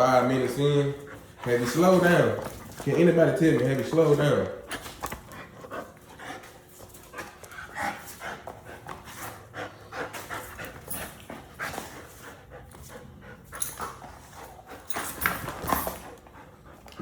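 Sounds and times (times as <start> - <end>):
dog panting hard: 0.0 - 3.8, 4.5 - 17.0.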